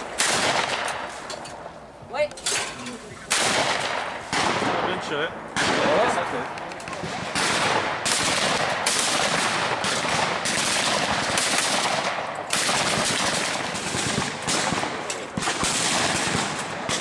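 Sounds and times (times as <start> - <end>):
shotguns firing: 0.0 - 1.7, 2.5 - 17.0.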